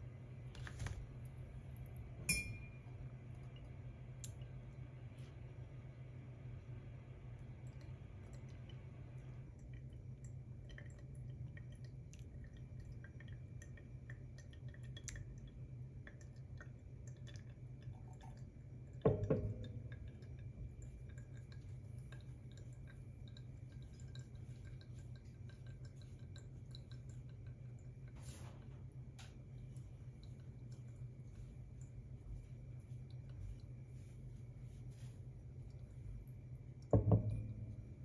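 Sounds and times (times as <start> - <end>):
coffee dripping through filter: 0.0 - 38.0
low steady hum: 0.0 - 38.0.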